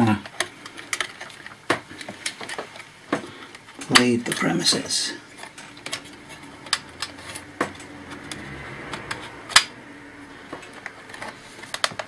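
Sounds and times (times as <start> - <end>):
laptop parts clicking: 0.0 - 9.8, 10.4 - 12.0.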